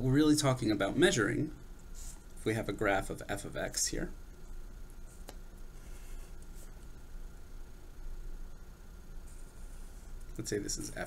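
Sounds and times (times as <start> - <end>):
low hiss and hum: 0.0 - 11.0.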